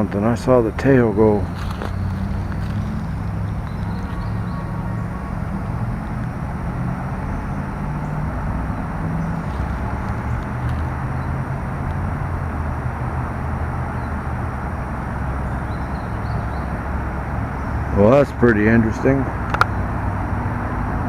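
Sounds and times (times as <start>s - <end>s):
low rumble with hiss: 0.0s - 21.0s.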